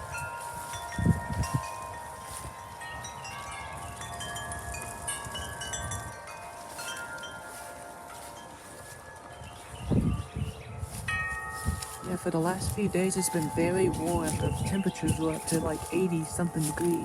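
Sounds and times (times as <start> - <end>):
wind chimes ringing: 0.0 - 17.0
wind rumble on microphone: 0.0 - 17.0.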